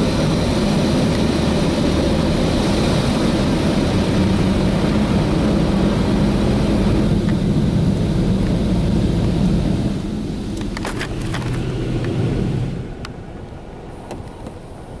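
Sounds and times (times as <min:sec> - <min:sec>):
car wash machinery and water roar: 0:00.0 - 0:15.0.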